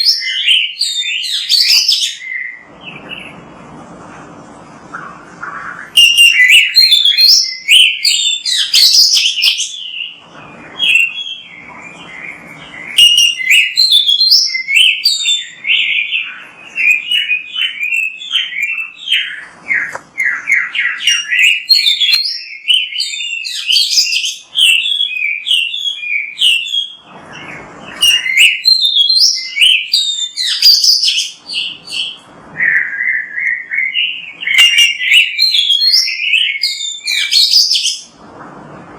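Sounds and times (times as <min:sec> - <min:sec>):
bird singing whistles and chirps: 0:00.0 - 0:03.4, 0:04.9 - 0:38.1.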